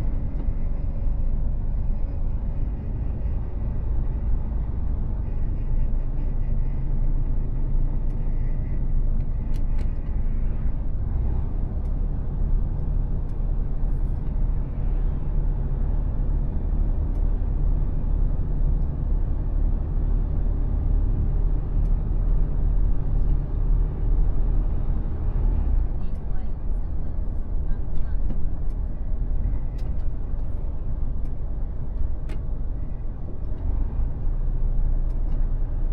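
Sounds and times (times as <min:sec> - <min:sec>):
road and tyre rumble: 0:00.0 - 0:35.9
truck diesel engine running: 0:00.0 - 0:35.9.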